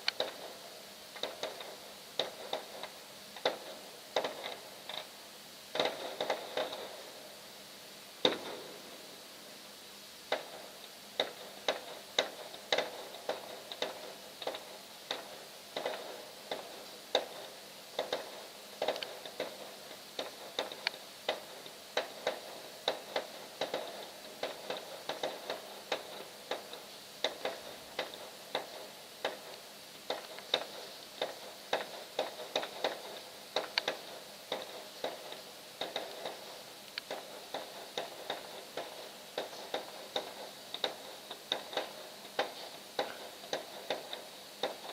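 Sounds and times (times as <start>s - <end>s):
sharp irregular clicks: 0.0s - 5.1s, 5.7s - 7.0s, 10.3s - 44.9s.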